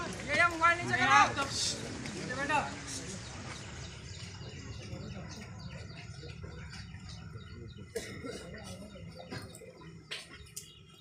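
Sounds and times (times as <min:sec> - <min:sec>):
murmur of crowd: 0:00.0 - 0:11.0.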